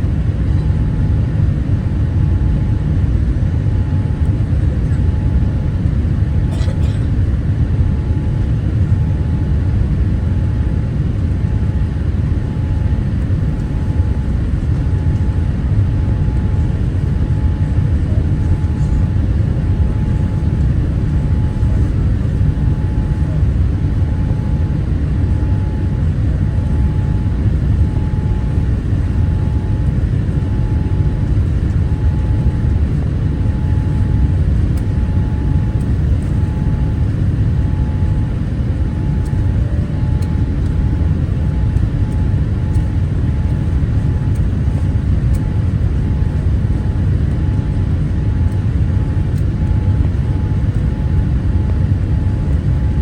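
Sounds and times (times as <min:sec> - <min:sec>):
aircraft cabin engine rumble: 0:00.0 - 0:53.0.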